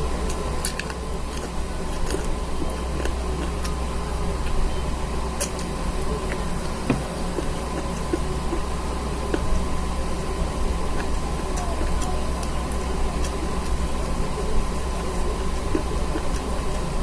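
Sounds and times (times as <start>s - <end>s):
background hiss and hum: 0.0s - 17.0s
faint clicks of eating: 0.0s - 17.0s.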